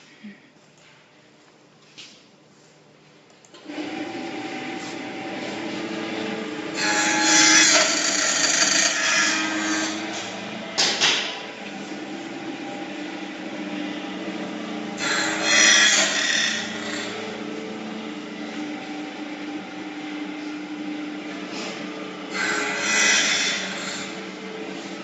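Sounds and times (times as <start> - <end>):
machine motor hum with tones: 3.5 - 25.0
harsh metal cutting: 3.7 - 25.0.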